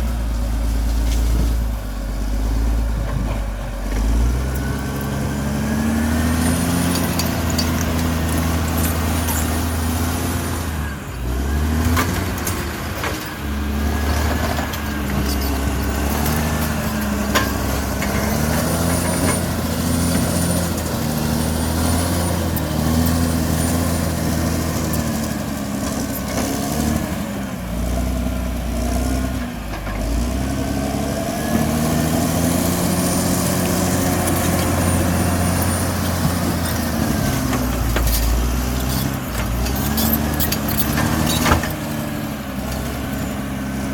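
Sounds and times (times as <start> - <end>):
bulldozer diesel engine: 0.0 - 43.9.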